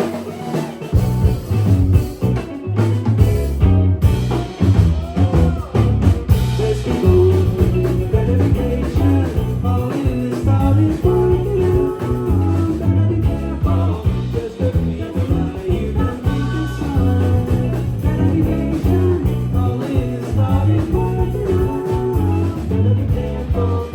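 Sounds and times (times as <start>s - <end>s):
electric guitar: 0.0s - 23.9s
pulsing bass and drums: 0.0s - 23.9s
rock band playing live: 0.0s - 23.9s.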